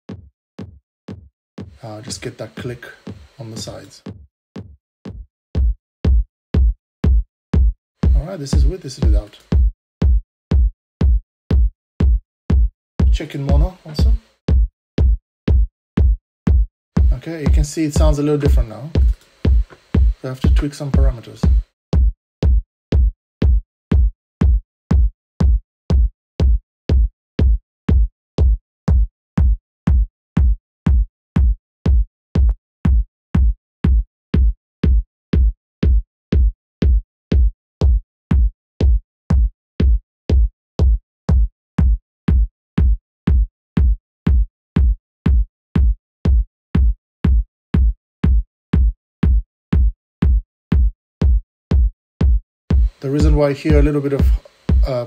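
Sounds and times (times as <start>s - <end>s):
electronic kick drum: 0.1s - 55.0s.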